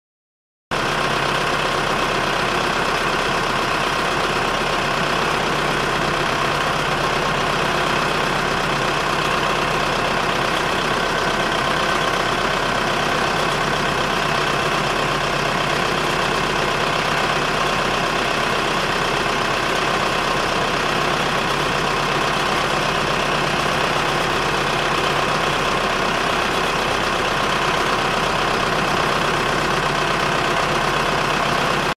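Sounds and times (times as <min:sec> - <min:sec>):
diesel truck engine idling: 0:00.7 - 0:32.0.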